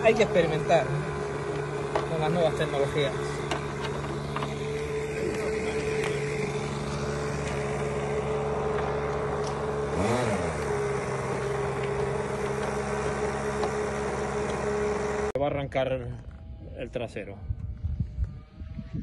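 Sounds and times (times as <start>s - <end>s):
engine running and revving: 0.0s - 15.4s, 17.5s - 19.0s.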